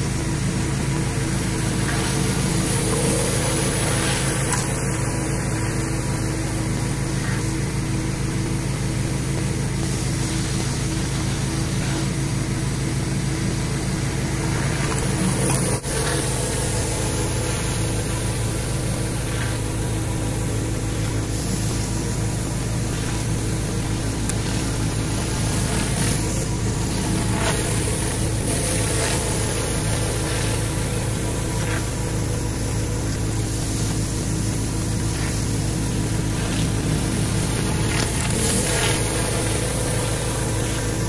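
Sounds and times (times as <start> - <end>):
pressure washer engine running: 0.0 - 41.0
water spraying onto concrete: 0.0 - 41.0.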